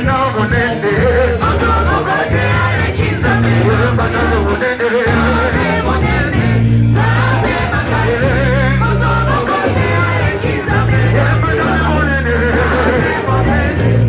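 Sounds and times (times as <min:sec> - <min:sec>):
band with heavy bass line: 0:00.0 - 0:14.0
person singing with backing voices: 0:00.0 - 0:14.0.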